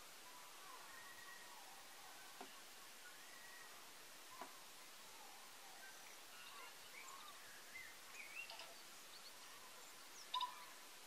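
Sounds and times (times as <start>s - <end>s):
faint birdsong chirps: 0.0s - 11.0s
steady hiss: 0.0s - 11.0s.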